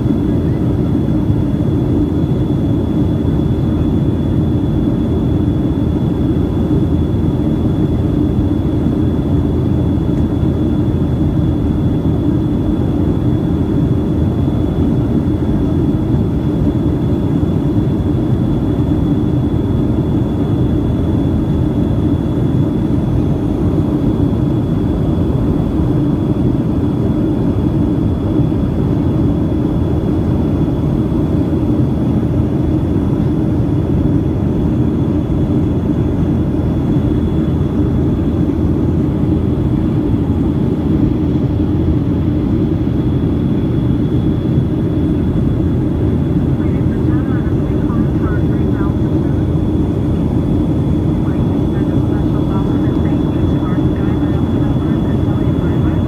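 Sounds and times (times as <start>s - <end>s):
airliner engines and airflow rush: 0.0s - 56.0s.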